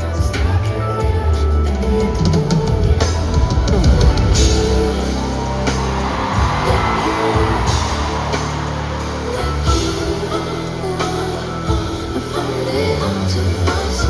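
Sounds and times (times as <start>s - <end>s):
loud live concert music: 0.0s - 14.0s.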